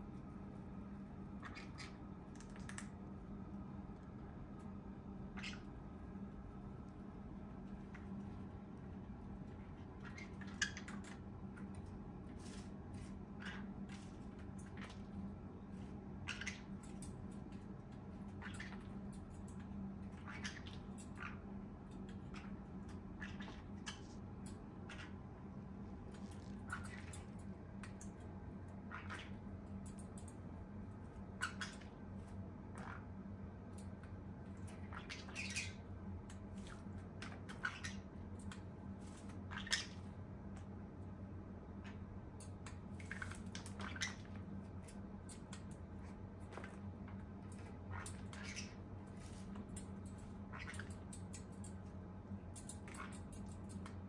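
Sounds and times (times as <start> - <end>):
low hum: 0.0 - 54.0
parrot scratchy clicks and rustles: 1.3 - 3.1, 6.3 - 25.2, 26.0 - 28.3, 28.9 - 40.7, 41.8 - 54.0.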